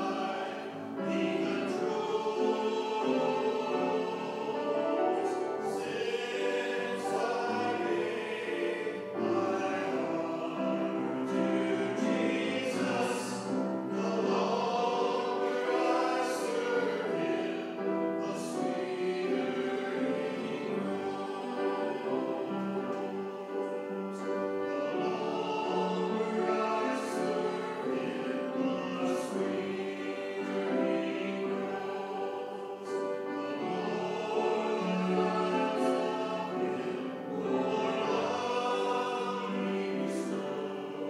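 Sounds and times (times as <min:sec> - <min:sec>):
church choir singing: 0:00.0 - 0:41.0.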